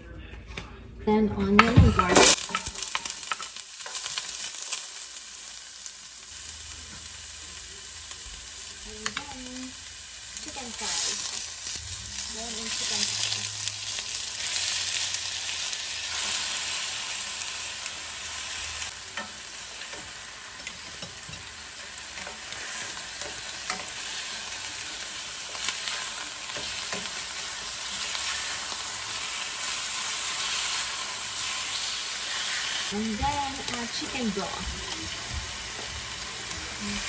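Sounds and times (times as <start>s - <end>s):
chicken sizzling in a pan: 2.0s - 37.0s.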